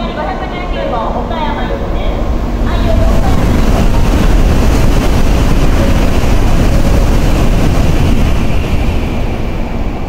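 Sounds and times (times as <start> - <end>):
high-speed train rushing past: 0.0 - 10.0.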